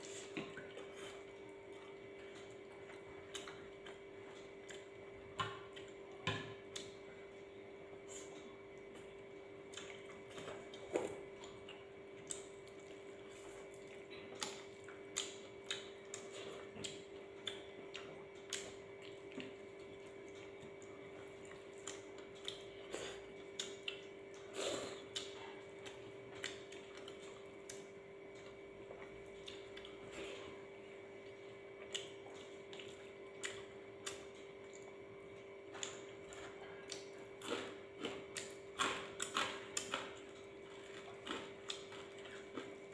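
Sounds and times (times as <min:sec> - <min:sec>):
faint hum: 0:00.0 - 0:42.9.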